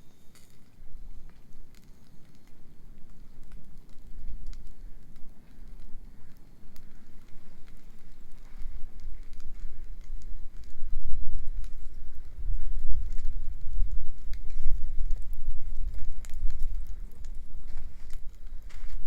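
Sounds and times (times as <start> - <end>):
bonfire crackling and popping: 0.0 - 19.0
low fluctuating rumble: 3.3 - 19.0.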